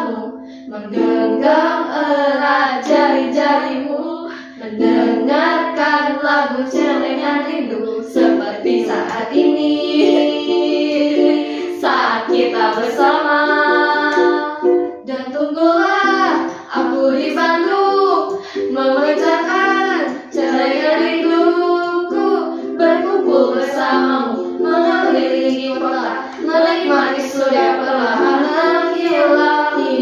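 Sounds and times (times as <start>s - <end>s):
strummed ukulele: 0.0s - 30.0s
women singing pop song: 0.0s - 30.0s.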